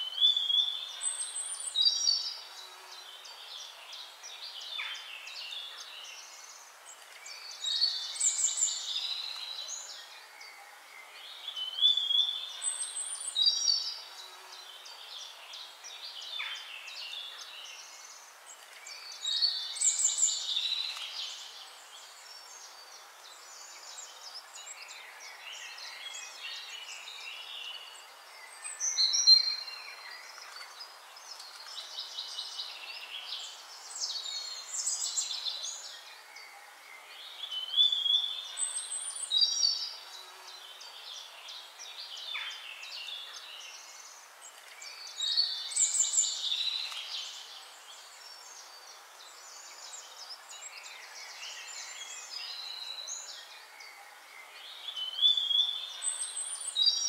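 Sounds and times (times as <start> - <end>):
faint hiss: 0.0 - 57.0
songbird chirping and trilling: 0.0 - 57.0.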